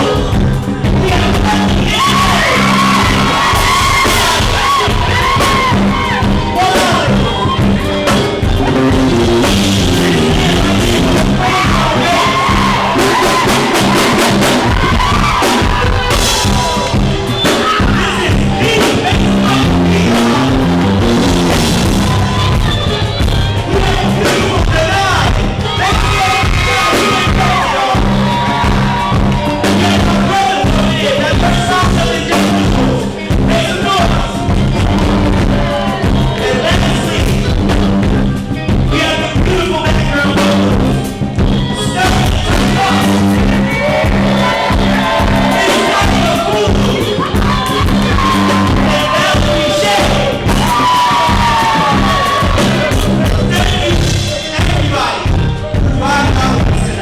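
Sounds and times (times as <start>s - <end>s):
live band music: 0.0s - 57.0s
person singing: 0.0s - 57.0s
sustained bass line: 0.0s - 57.0s.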